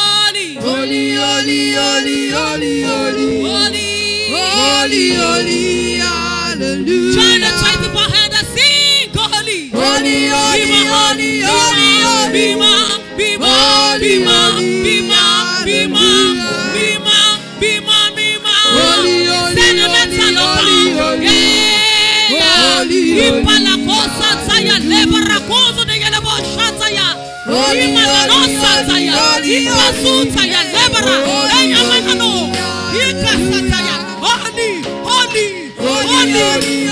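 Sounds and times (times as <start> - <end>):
sustained instrumental backing: 0.0 - 36.9
voices singing: 0.0 - 36.9.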